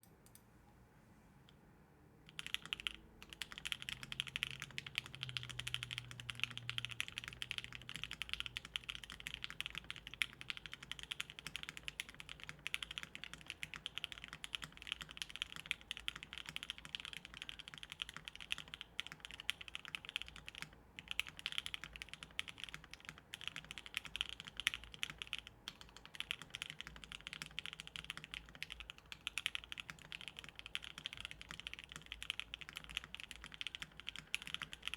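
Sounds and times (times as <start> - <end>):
fast mechanical keyboard typing: 2.3 - 34.9.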